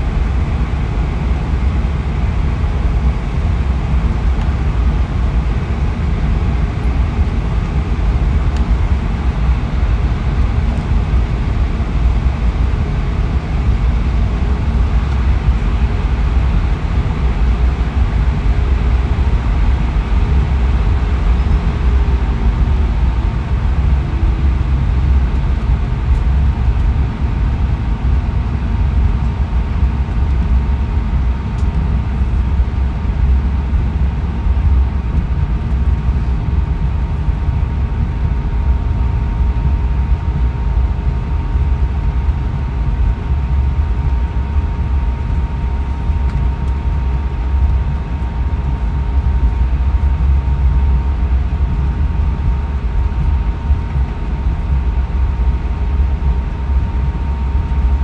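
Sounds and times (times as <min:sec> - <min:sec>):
aircraft cabin rumble: 0:00.0 - 0:58.0
faint constant whine: 0:00.0 - 0:58.0.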